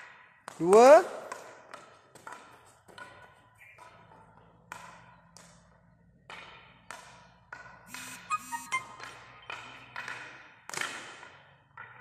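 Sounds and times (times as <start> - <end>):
hockey stick tapping ball: 0.0 - 8.2, 8.9 - 12.0.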